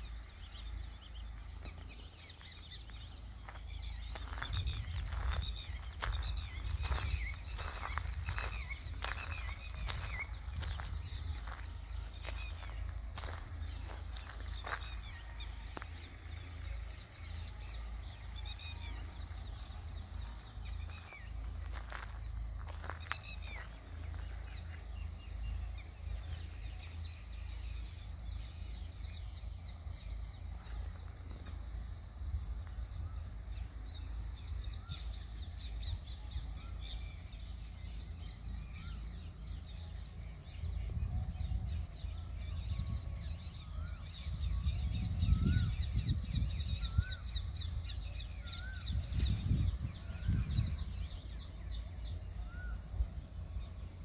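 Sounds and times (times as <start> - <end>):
insect hiss: 0.0 - 54.0
low rumble on microphone: 0.0 - 54.0.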